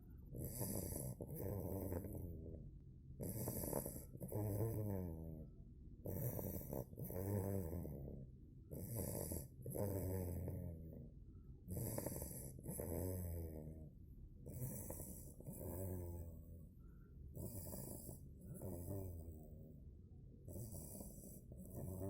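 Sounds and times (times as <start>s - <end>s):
puppy snoring: 0.0s - 22.0s.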